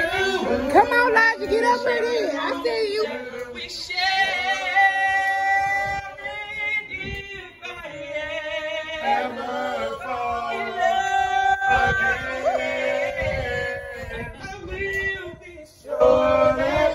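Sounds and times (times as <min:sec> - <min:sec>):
men singing through speaker: 0:00.0 - 0:16.9.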